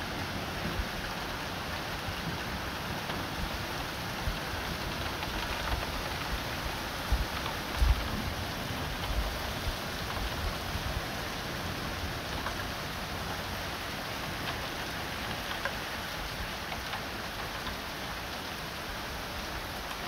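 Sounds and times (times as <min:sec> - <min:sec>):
hailstones ticking: 0:00.1 - 0:20.0.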